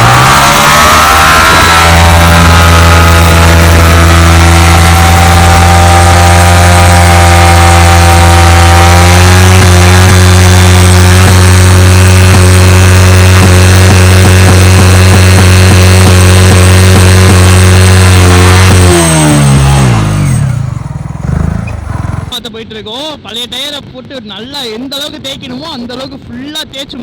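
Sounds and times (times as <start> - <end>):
motorcycle engine at high revs: 0.0 - 22.4
engine crackles: 0.0 - 27.0.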